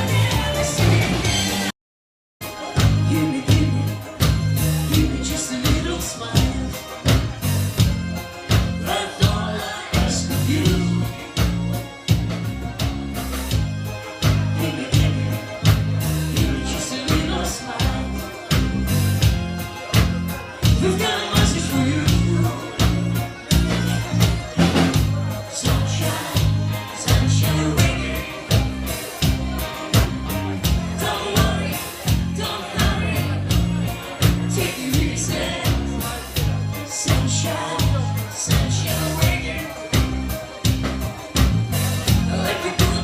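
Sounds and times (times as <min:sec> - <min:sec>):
song with singing over beat: 0:00.0 - 0:01.7, 0:02.4 - 0:43.0.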